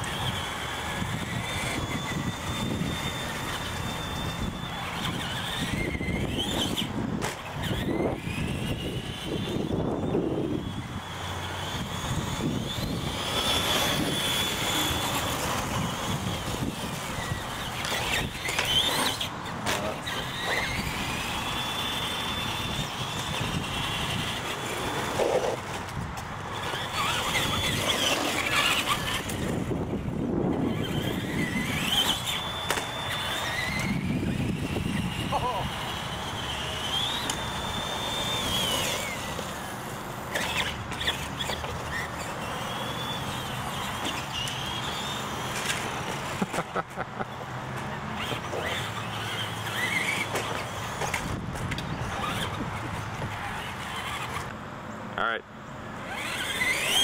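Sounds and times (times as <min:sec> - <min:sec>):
toy truck motors whining: 0:00.0 - 0:57.0.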